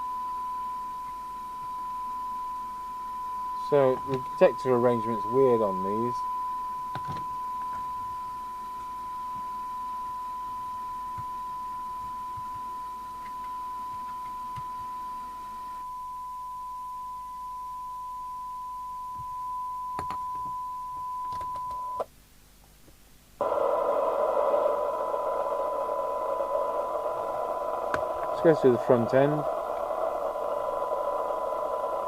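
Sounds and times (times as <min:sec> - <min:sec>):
steady test tone: 0:00.0 - 0:22.0, 0:23.4 - 0:32.0.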